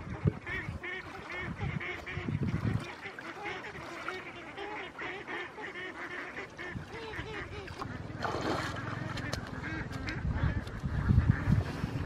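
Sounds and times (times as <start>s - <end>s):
water sloshing from wading: 0.0s - 12.0s
waterfowl honking: 0.3s - 12.0s.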